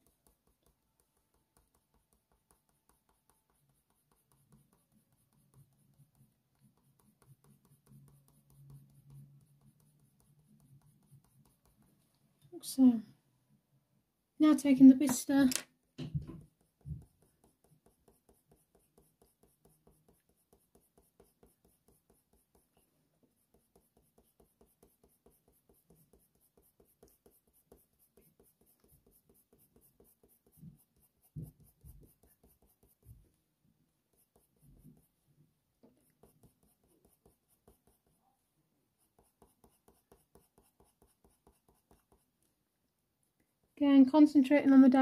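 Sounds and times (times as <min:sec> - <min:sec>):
colored pencil scratching on paper: 0:00.0 - 0:12.0, 0:16.1 - 0:42.6.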